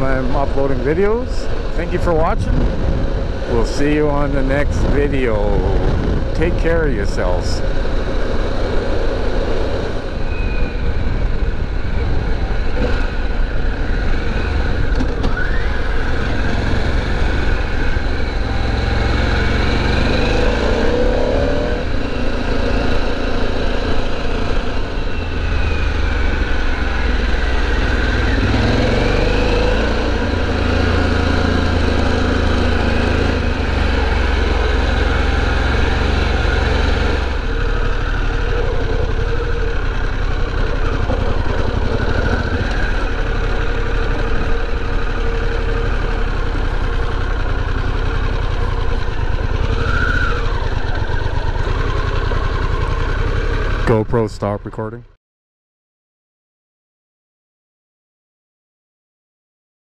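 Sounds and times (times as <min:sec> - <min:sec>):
motorcycle engine running: 0:00.0 - 0:54.9
wind and road noise: 0:00.0 - 0:55.0.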